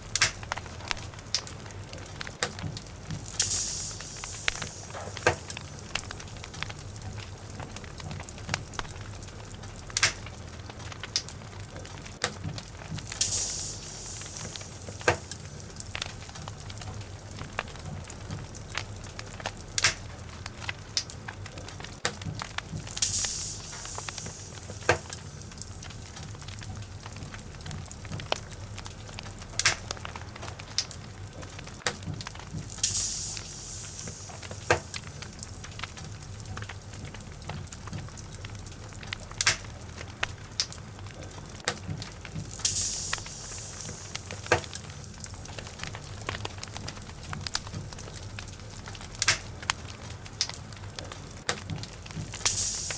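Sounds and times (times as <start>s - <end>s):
burning logs crackling and popping: 0.0s - 52.9s
fire hissing: 0.0s - 52.9s.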